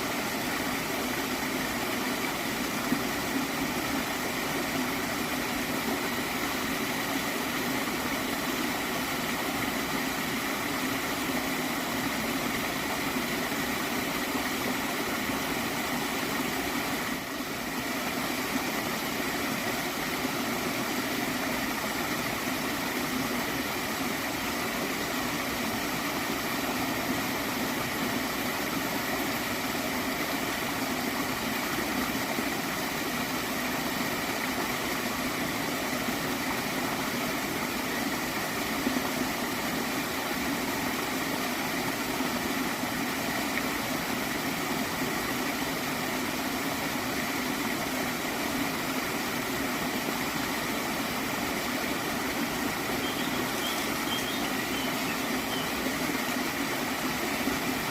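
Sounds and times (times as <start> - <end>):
stream water gurgling: 0.0 - 57.9.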